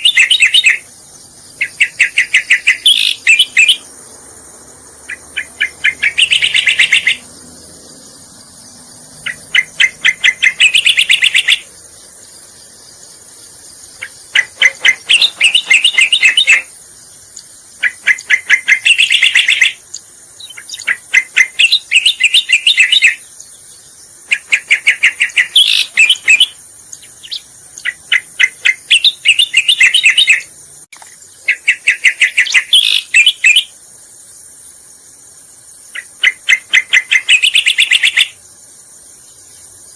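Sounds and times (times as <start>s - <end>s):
bird chattering song: 0.0s - 4.3s, 5.0s - 33.8s, 35.8s - 39.9s
high-pitched hiss: 0.0s - 39.9s.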